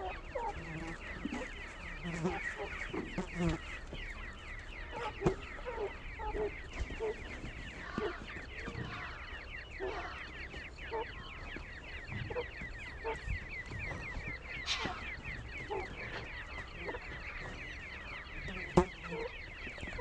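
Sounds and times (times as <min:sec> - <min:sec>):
chicks peeping: 0:00.0 - 0:20.0
low clucking calls: 0:00.0 - 0:20.0.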